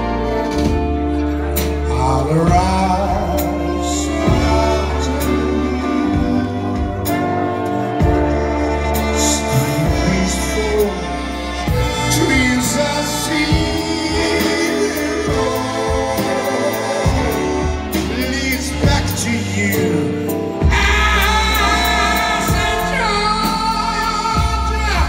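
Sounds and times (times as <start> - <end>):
big band playing: 0.0 - 25.0
man singing into a microphone: 1.7 - 7.4, 9.0 - 25.0.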